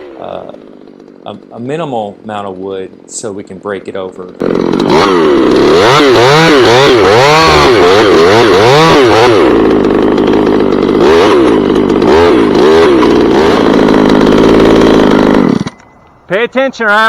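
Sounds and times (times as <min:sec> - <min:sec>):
chainsaw revving: 0:00.0 - 0:16.3.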